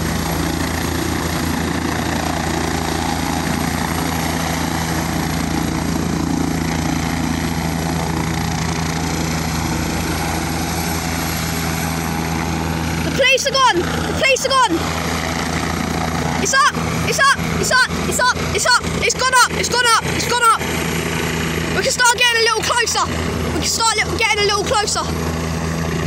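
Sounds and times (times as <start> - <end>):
helicopter hovering: 0.0 - 26.0.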